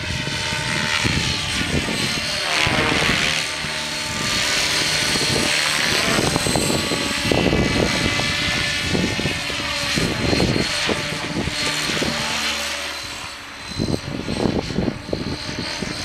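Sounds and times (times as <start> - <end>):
rc helicopter motor whine: 0.0 - 16.0
wind buffeting the microphone: 0.0 - 16.0.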